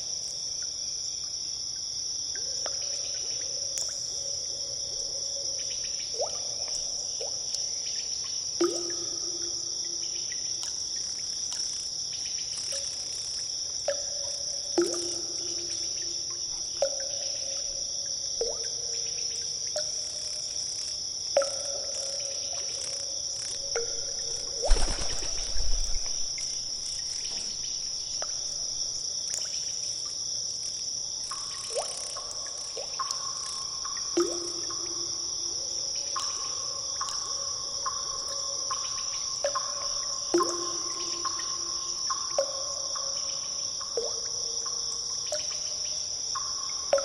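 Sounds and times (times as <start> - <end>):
steady high-pitched hiss: 0.0 - 47.0
water drips plopping into pools: 0.0 - 47.0.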